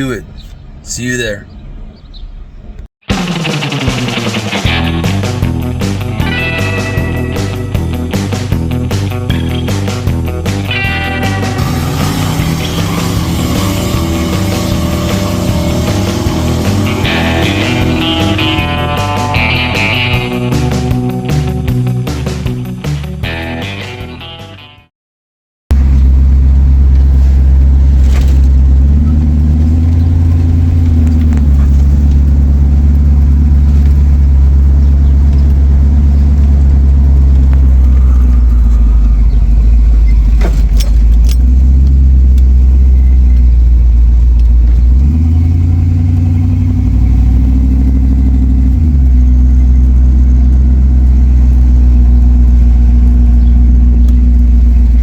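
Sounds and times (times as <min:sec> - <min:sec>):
car engine droning: 0:00.0 - 0:22.6, 0:25.7 - 0:55.0.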